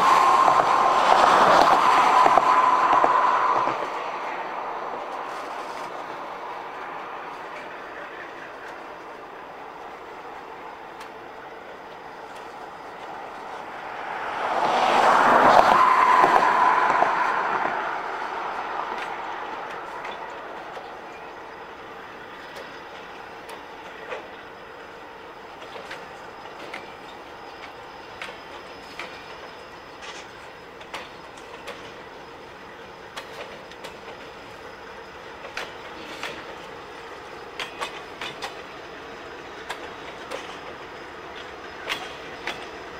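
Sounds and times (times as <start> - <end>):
freight train cars rolling: 0.0 - 42.9
wheels clicking over rail joints: 4.9 - 13.7, 15.0 - 42.9.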